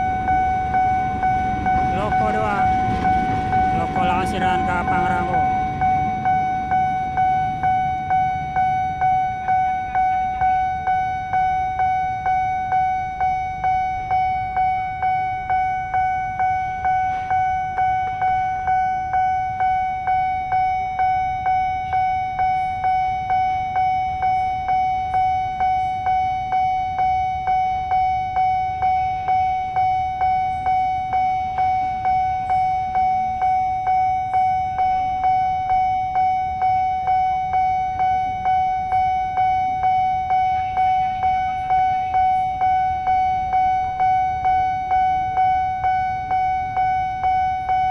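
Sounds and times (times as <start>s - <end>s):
level crossing warning bell ringing: 0.0s - 47.9s.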